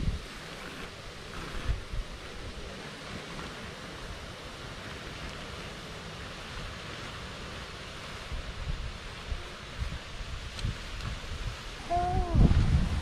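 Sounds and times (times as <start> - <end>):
wind blowing: 0.0 - 13.0.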